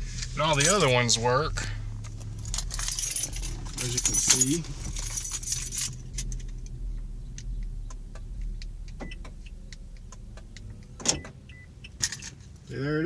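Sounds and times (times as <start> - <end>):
steady low hum: 0.0 - 13.0
car keys jangling: 0.2 - 12.7.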